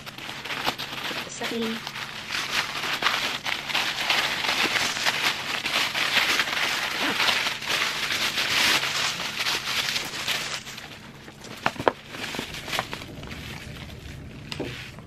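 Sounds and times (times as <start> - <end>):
tissue paper crinkling: 0.0 - 15.0.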